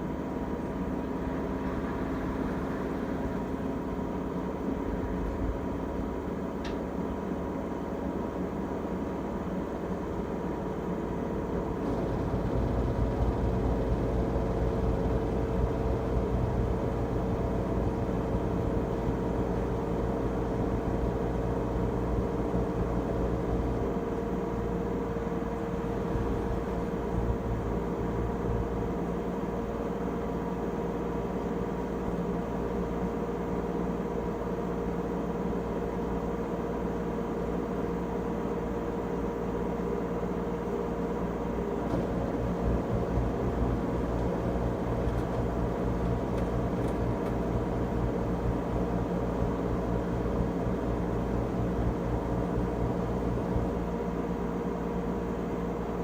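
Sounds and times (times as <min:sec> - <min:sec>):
washing machine rumble: 0:00.0 - 0:33.6, 0:40.0 - 0:56.0
washing machine motor hum: 0:00.0 - 0:56.0.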